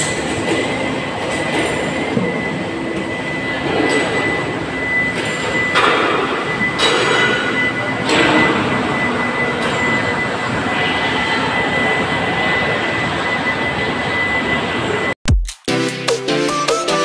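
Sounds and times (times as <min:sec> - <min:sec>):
machinery high whine: 0:00.0 - 0:15.2.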